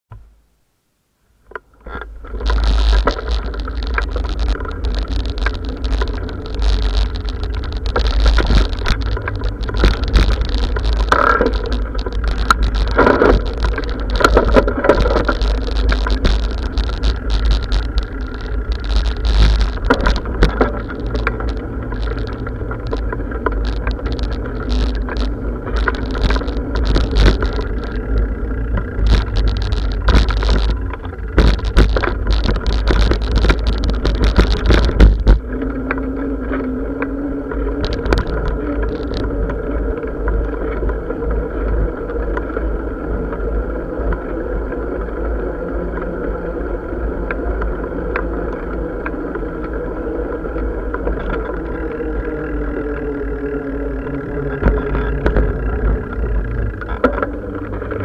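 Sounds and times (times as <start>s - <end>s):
bike rattles and knocks: 1.4s - 58.0s
heavy low rumble: 2.1s - 44.0s, 50.7s - 58.0s.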